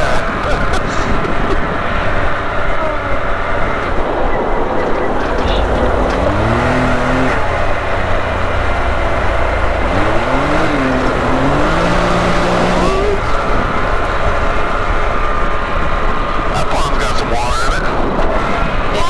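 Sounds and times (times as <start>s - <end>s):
vehicle engine revving: 0.0s - 17.1s
engine whine: 0.0s - 19.0s
rough road noise: 0.0s - 19.0s.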